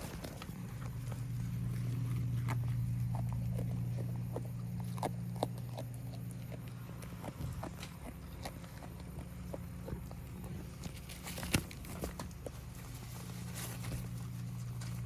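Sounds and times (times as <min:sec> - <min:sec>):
goats chewing leafy branches: 0:00.0 - 0:15.0
low hum: 0:00.0 - 0:15.0.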